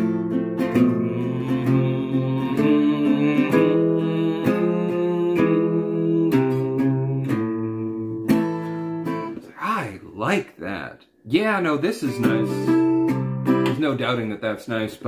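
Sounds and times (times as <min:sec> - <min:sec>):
acoustic guitar strumming chords: 0:00.0 - 0:09.8, 0:11.3 - 0:14.2.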